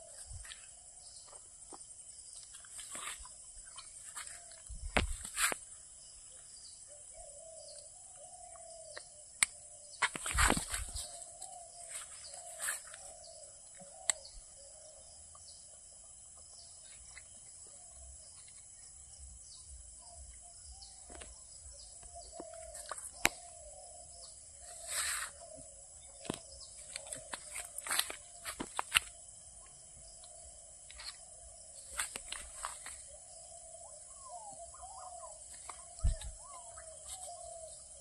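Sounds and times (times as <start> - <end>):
bird chirps: 0.0 - 38.0.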